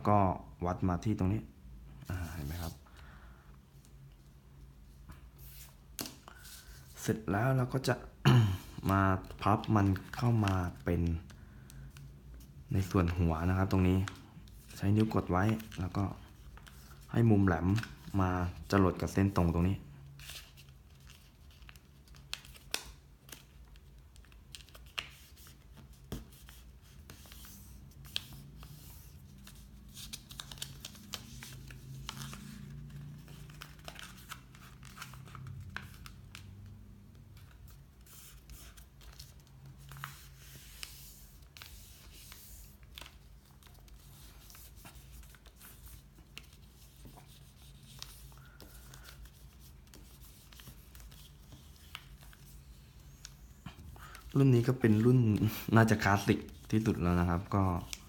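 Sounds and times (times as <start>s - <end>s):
paper rustling and crinkling: 8.8s - 58.0s.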